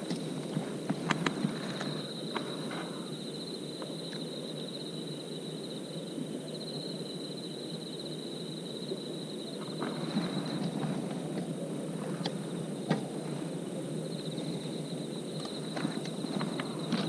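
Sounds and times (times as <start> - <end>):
crickets trilling: 0.0 - 17.0
low background noise: 0.0 - 17.0.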